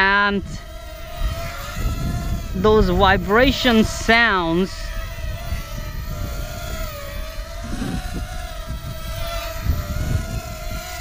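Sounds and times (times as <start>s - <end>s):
quadcopter motors whining: 0.0s - 11.0s
wind rumble: 0.0s - 11.0s.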